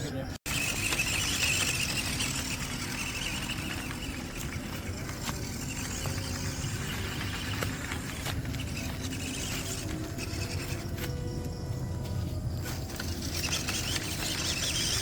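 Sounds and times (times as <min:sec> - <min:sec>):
toy car motor and gears running: 0:00.1 - 0:15.0.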